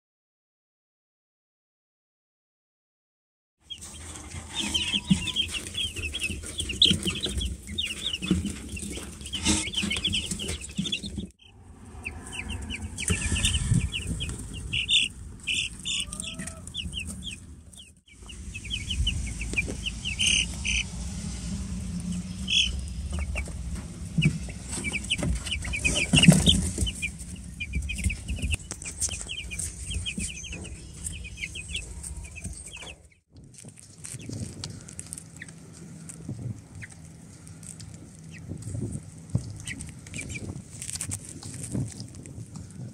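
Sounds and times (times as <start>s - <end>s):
chicks peeping: 3.7s - 42.9s.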